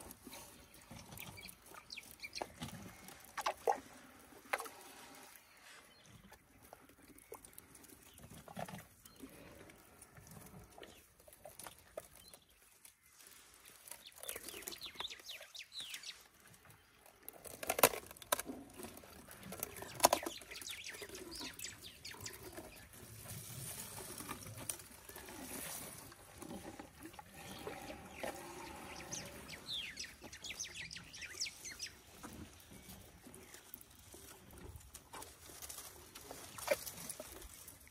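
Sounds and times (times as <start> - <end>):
elephant crunching twigs: 0.0 - 5.2, 6.7 - 31.1, 32.1 - 37.9.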